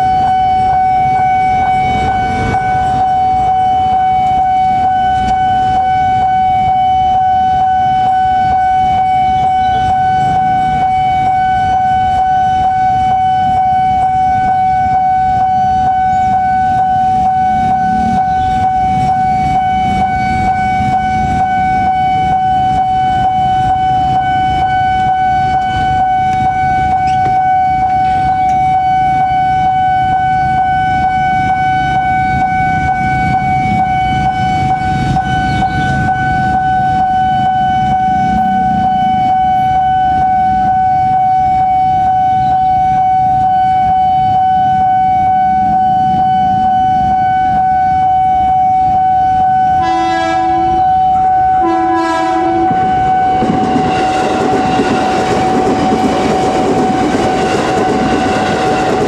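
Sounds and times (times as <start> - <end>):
level crossing alarm tone: 0.0 - 59.0.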